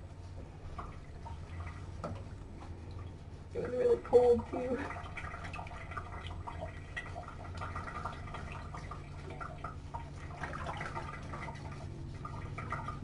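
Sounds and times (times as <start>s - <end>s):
steady low hum: 0.0s - 13.0s
water dripping and sloshing: 0.0s - 13.0s.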